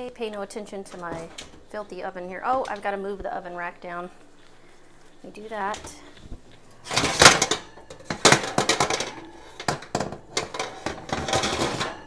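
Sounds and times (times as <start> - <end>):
oven rack scraping and rattling: 0.0 - 3.7, 5.5 - 12.0.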